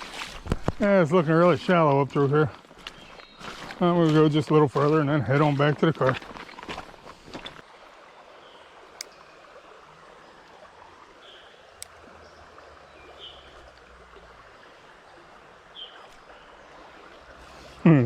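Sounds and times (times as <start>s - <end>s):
creek water over rocks: 0.0s - 18.0s.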